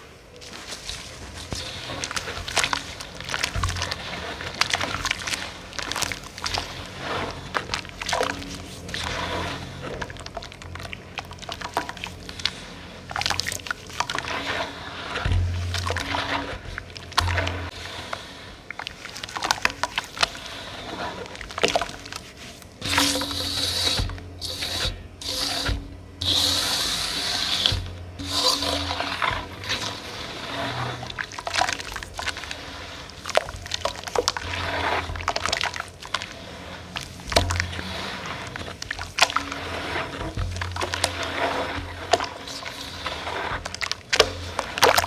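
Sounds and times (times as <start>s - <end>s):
hands squelching mud in water: 0.3s - 45.0s.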